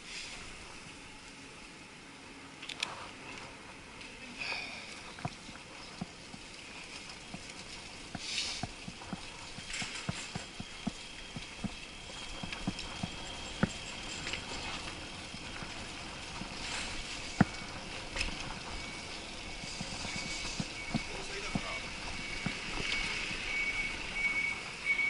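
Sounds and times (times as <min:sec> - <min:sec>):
muffled street noise hiss: 0:00.0 - 0:25.0.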